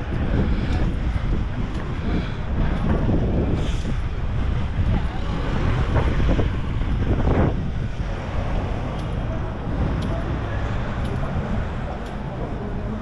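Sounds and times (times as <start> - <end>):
road traffic: 0.0 - 13.0
wind buffeting microphone: 0.0 - 13.0.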